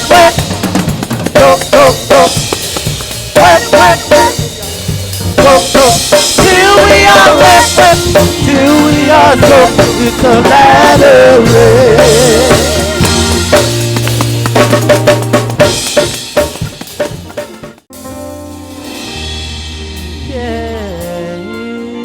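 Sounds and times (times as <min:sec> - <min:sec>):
drum kit hits: 0:00.0 - 0:21.3
live gospel band music: 0:00.0 - 0:22.0.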